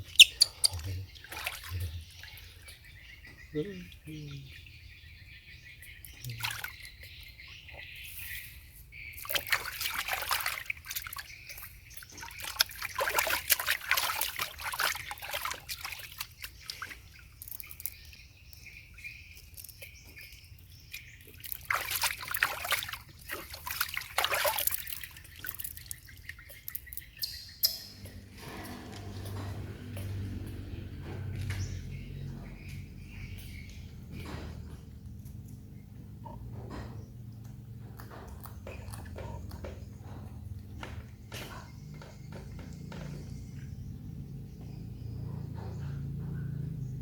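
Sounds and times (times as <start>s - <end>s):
water trickling and splashing: 0.0s - 35.9s, 37.3s - 46.9s.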